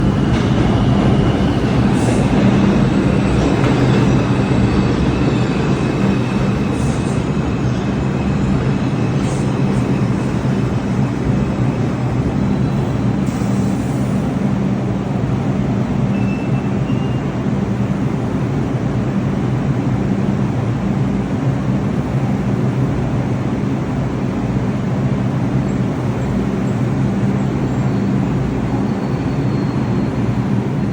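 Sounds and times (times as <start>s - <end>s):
subway train rumble: 0.0s - 30.9s.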